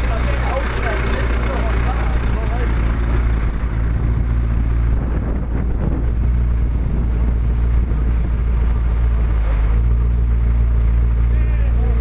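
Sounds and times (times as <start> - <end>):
car engine rumbling: 0.0 - 12.0
wind buffeting microphone: 0.8 - 11.2.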